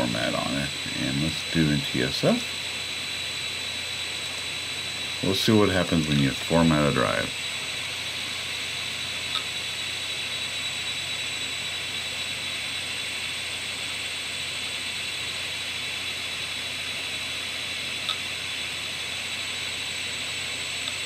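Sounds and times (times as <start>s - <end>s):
hard drive high whine: 0.0s - 21.0s.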